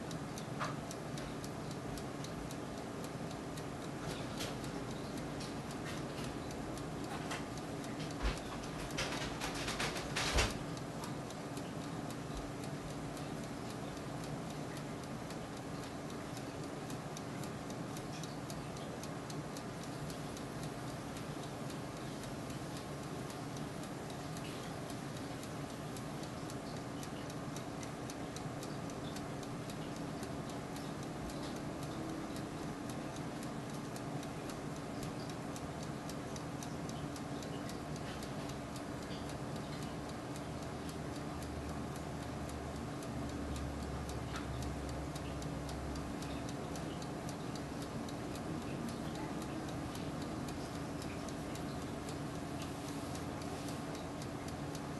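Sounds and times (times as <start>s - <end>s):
convection oven fan humming: 0.0s - 54.9s
light ticking and crackling: 0.0s - 54.9s.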